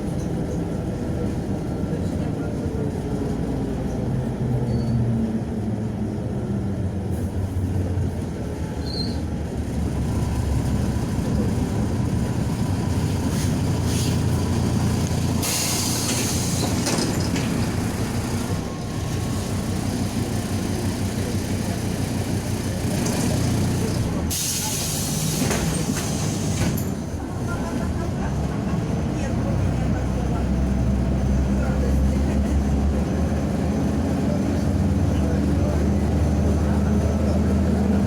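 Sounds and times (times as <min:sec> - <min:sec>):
bus engine and road rumble: 0:00.0 - 0:38.0.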